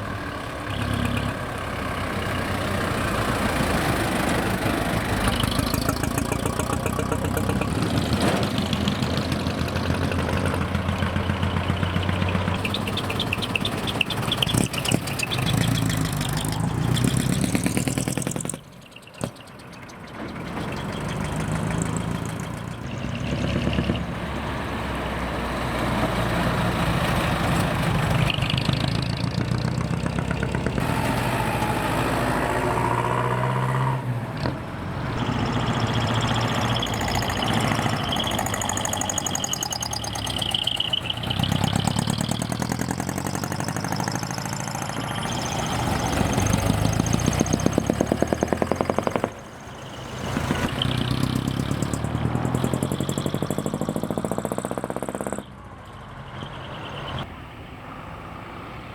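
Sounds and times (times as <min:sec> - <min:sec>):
diesel truck engines revving: 0:00.0 - 0:58.9.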